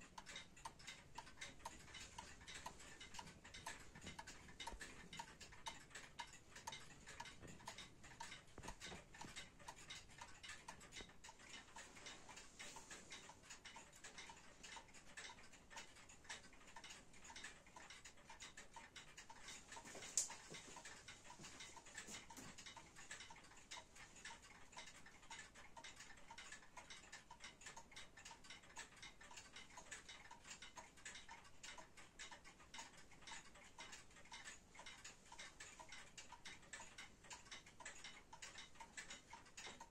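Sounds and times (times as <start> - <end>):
wall clock ticking: 0.0 - 39.9.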